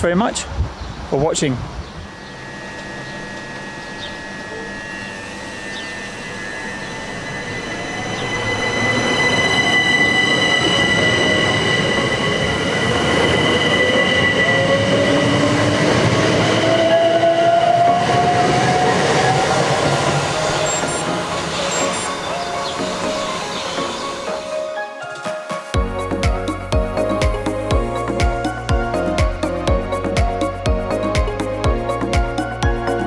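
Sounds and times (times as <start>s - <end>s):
electric train high whine: 0.0s - 33.0s
train whine rising in pitch: 1.1s - 33.0s.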